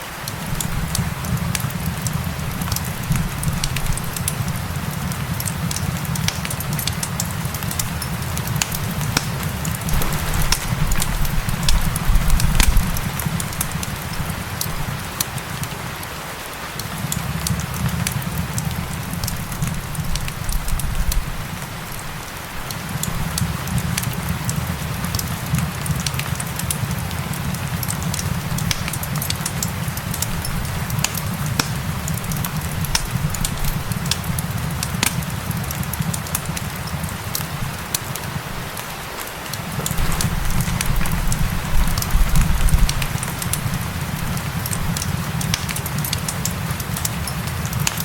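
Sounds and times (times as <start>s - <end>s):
rain hiss: 0.0s - 48.0s
wood fire crackling and popping: 0.1s - 48.0s.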